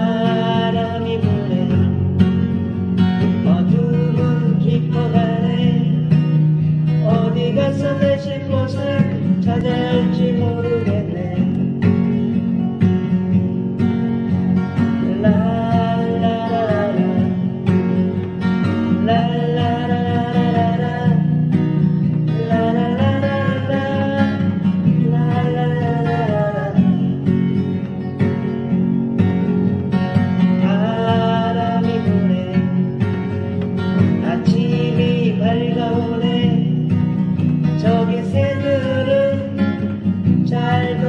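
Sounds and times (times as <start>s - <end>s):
song sung to guitar: 0.0s - 41.0s.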